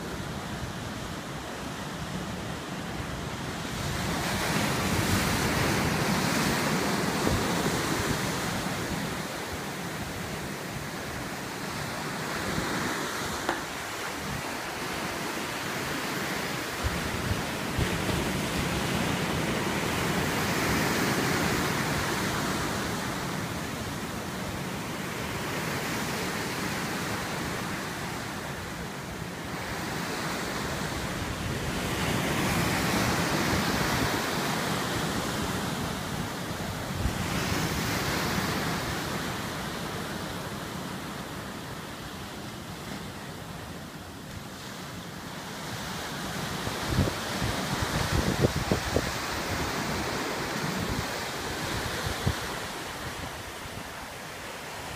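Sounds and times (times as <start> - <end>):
surf breaking on sandy beach: 0.0 - 40.9, 44.4 - 54.9.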